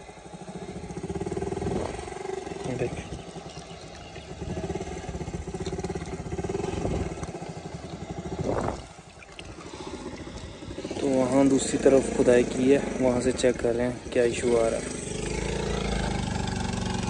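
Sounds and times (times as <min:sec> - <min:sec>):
engine running with pulsing note: 0:00.0 - 0:17.0.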